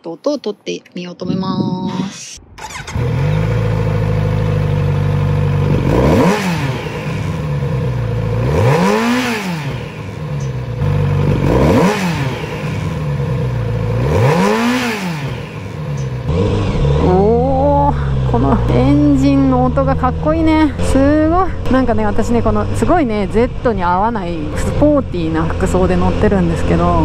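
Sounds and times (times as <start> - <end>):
motorcycle engine idling and revving: 2.5 - 27.0.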